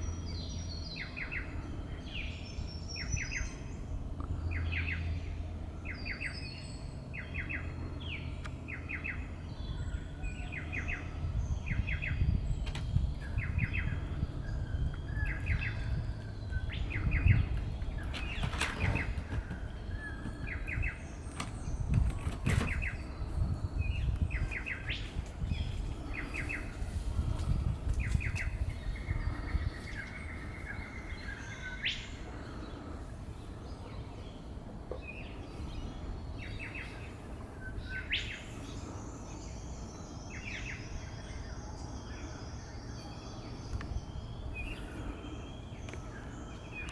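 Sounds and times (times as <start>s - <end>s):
low steady rumble: 0.0s - 46.9s.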